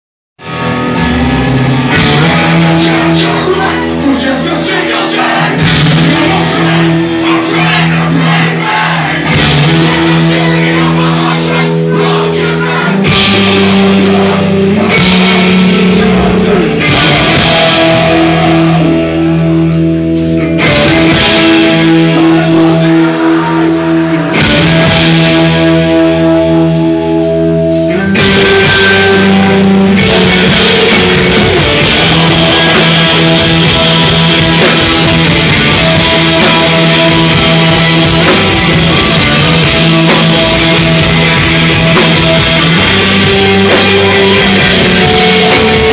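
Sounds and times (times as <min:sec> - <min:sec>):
bass guitar: 0:00.4 - 0:45.9
distorted electric guitar: 0:00.4 - 0:45.9
drum kit: 0:00.4 - 0:45.9.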